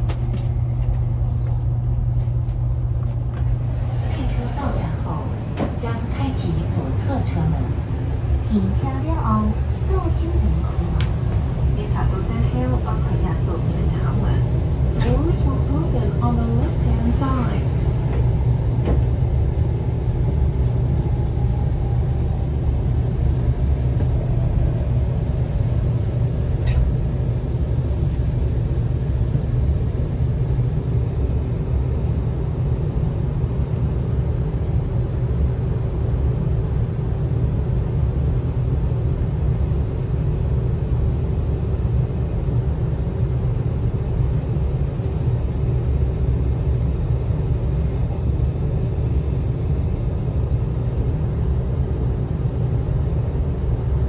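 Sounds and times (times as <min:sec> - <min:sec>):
deep train rumble: 0:00.0 - 0:54.0.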